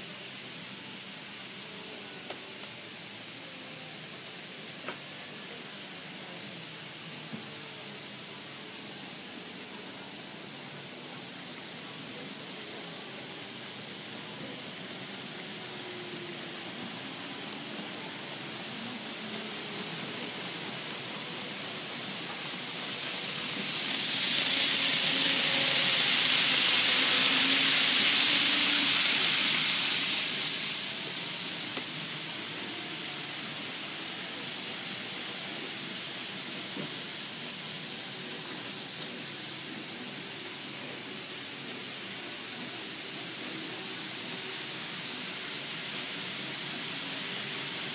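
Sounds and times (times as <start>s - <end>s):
model trains running on track: 0.0s - 47.9s
train passing with rushing hiss: 0.0s - 47.9s.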